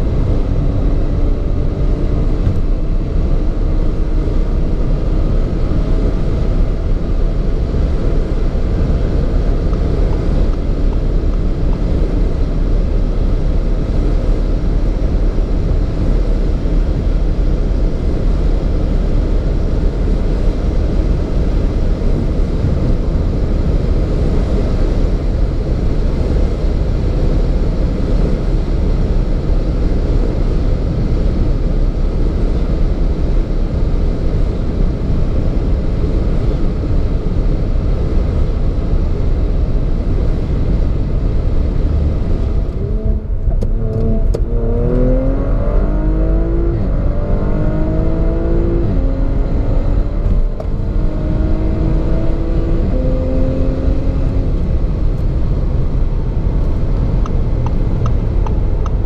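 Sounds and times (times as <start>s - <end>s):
car cabin wind and road roar: 0.0s - 59.0s
car engine accelerating hard: 0.0s - 59.0s.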